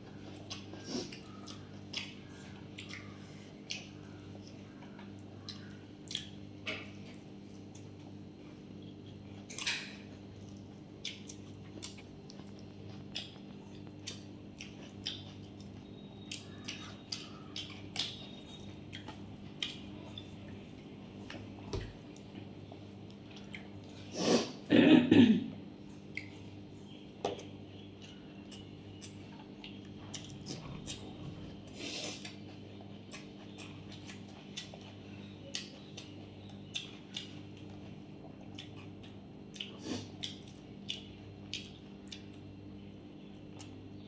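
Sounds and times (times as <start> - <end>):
chewing with clicks and smacks: 0.0 - 24.1, 25.8 - 44.0.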